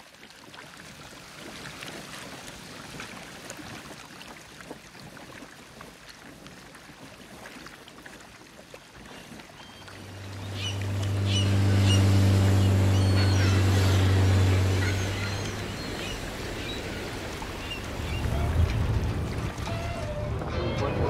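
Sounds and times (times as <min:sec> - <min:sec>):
sea water lapping on rocks: 0:00.0 - 0:20.1
water dripping and trickling: 0:00.0 - 0:20.4.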